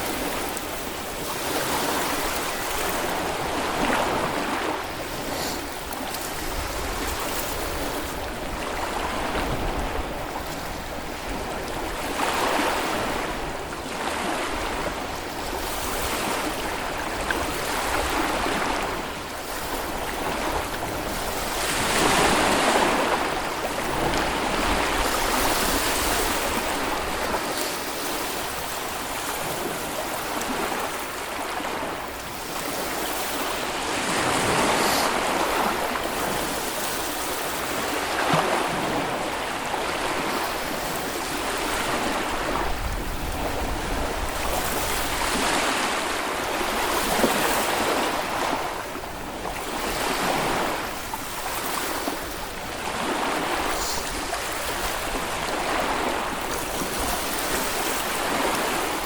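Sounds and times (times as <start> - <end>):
small waves washing onto sand: 0.0 - 59.0.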